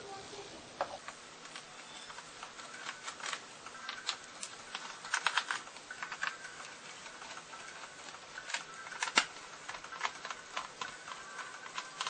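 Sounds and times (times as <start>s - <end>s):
fingers clicking on plastic: 0.9s - 12.0s.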